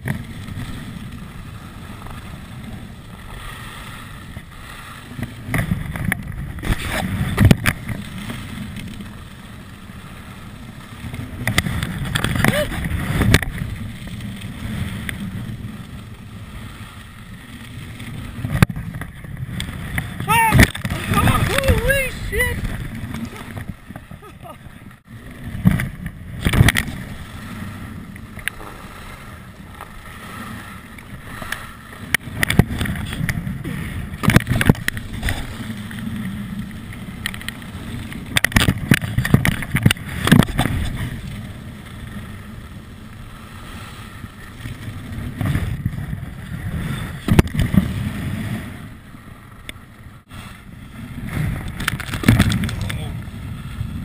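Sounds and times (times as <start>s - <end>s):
skis scraping over hard snow: 0.0s - 24.3s, 25.1s - 49.1s
wind rushing over microphone: 0.0s - 54.0s.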